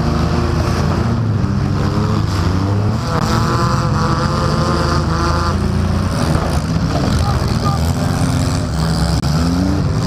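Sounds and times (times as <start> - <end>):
car engine running loud: 0.0 - 10.0.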